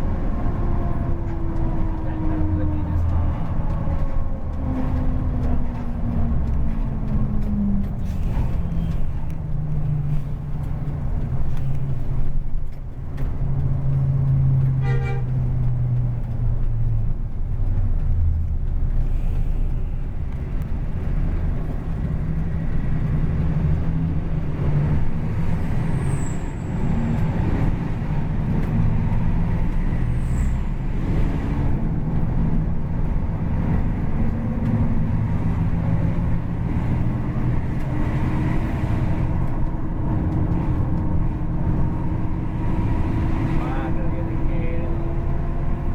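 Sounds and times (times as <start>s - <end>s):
bus engine rumbling: 0.0s - 45.9s.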